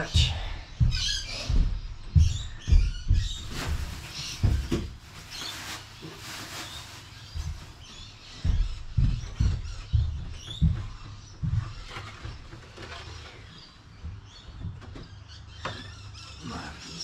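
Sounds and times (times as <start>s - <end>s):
footsteps on carpeted deck: 0.0s - 15.3s.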